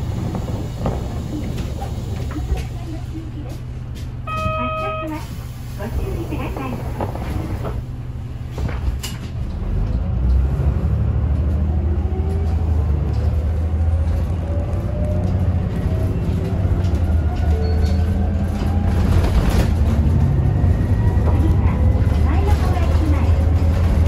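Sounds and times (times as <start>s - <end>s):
bus engine droning with whine: 0.0s - 24.0s.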